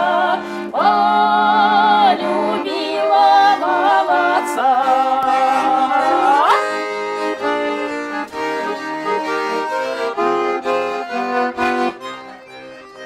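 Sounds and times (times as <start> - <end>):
button accordion playing: 0.0 - 13.0.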